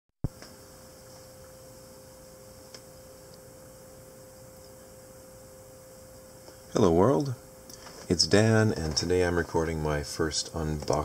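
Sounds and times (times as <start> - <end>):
faint electrical hum: 0.3 - 11.0.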